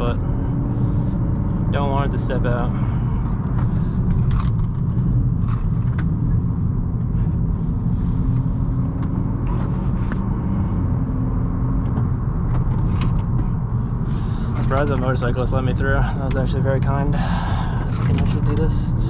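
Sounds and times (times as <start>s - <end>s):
car engine under load: 0.0s - 19.0s
road and tyre noise: 0.0s - 19.0s.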